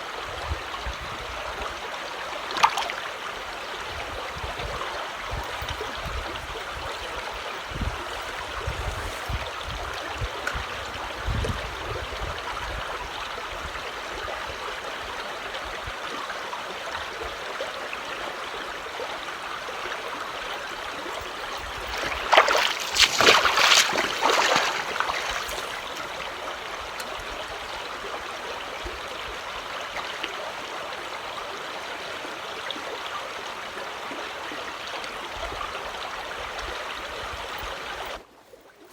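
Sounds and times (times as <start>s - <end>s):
creek water running: 0.0s - 38.9s.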